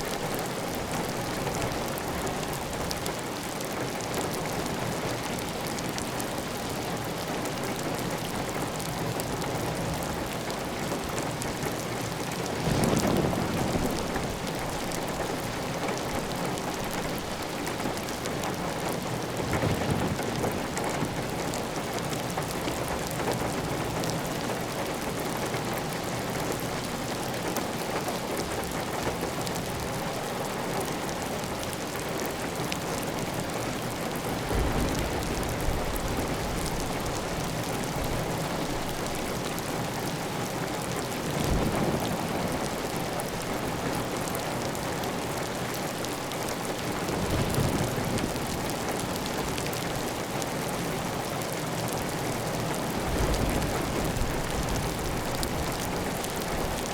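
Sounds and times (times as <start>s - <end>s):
heavy rain on a tiled roof: 0.0s - 56.9s.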